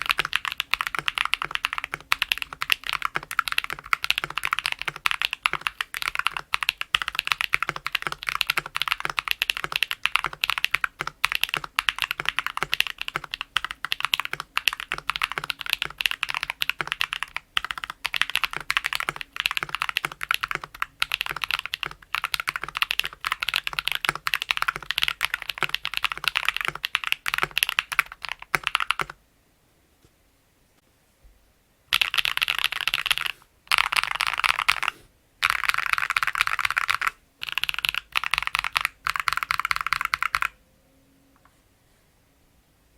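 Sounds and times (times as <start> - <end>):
typing on mechanical keyboard: 0.0 - 29.2, 31.9 - 40.6.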